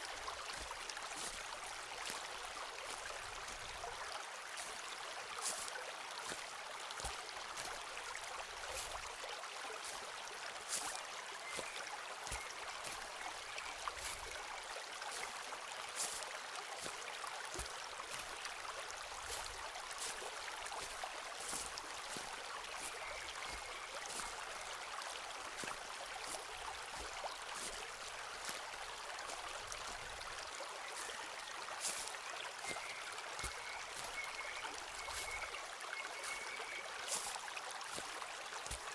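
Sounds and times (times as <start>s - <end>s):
footsteps on forest path: 0.0s - 38.9s
stream flowing: 0.0s - 38.9s.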